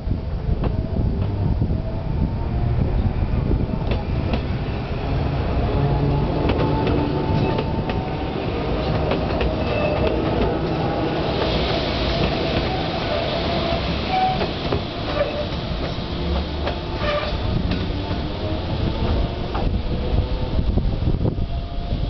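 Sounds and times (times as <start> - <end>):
electric train rumbling past: 0.0 - 22.0
train wheels clicking on rail joints: 0.5 - 1.5, 3.4 - 20.4.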